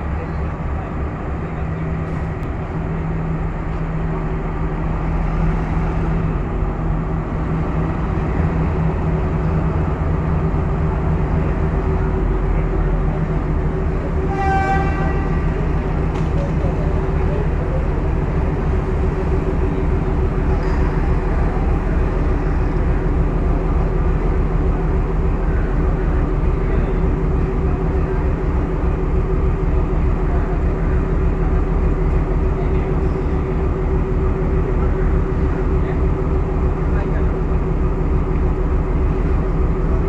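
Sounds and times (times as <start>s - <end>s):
diesel locomotive engine idling: 0.0s - 40.0s.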